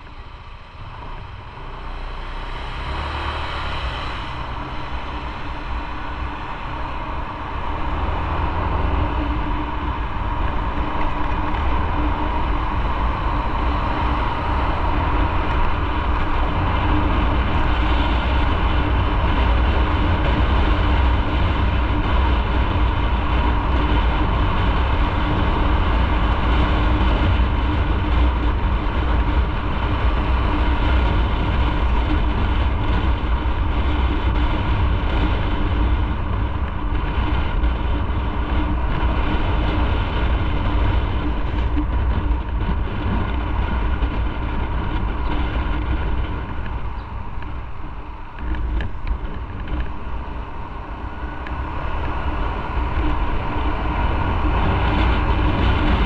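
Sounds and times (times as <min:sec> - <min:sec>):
motorcycle engine running: 0:00.0 - 0:56.0
road noise: 0:00.0 - 0:56.0
wind rushing over microphone: 0:00.0 - 0:56.0.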